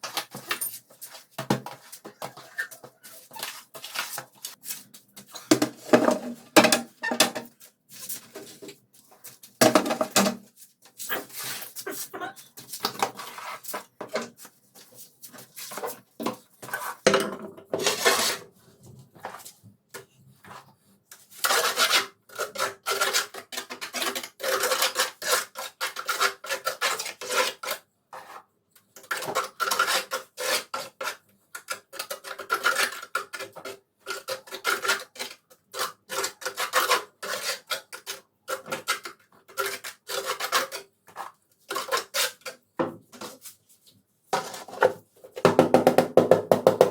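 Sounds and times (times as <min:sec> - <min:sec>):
hand tool scraping on tile: 0:00.0 - 0:46.9.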